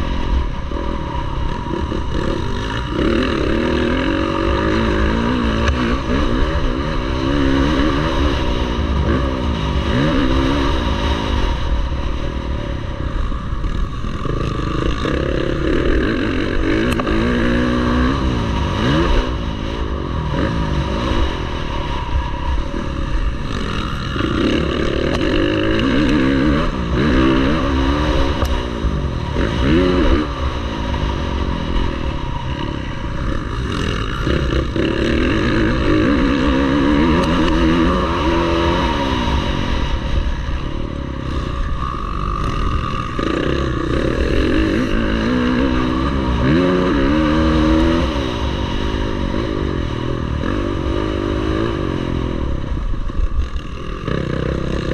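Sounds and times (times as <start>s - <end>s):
low rumble: 0.0s - 54.9s
motocross bike engines revving: 0.0s - 54.9s.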